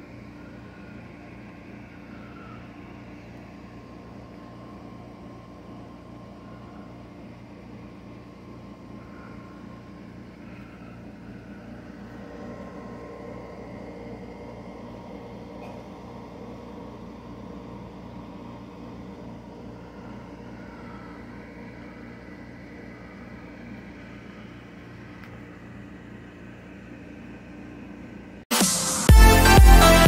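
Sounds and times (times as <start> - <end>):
air conditioner hum: 0.0 - 28.5.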